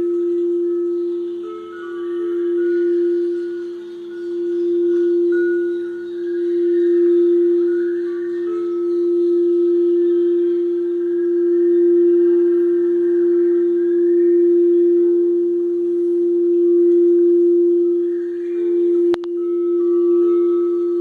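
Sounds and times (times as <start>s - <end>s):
singing bowl sustained tone: 0.0s - 21.0s.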